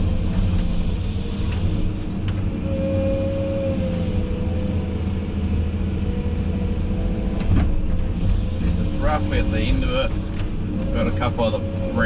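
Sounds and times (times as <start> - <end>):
diesel engine low drone: 0.0 - 12.0
steady whine: 0.0 - 12.0.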